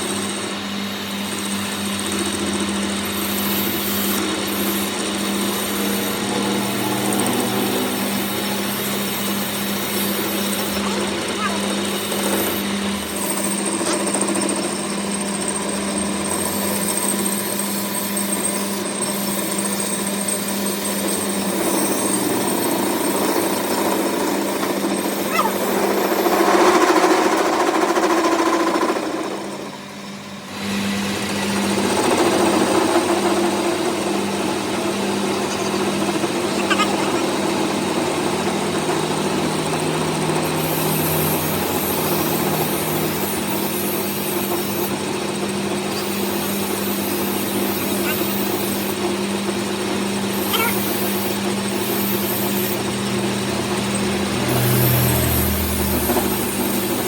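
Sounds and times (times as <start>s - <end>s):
machine humming: 0.0s - 28.0s, 32.7s - 57.0s.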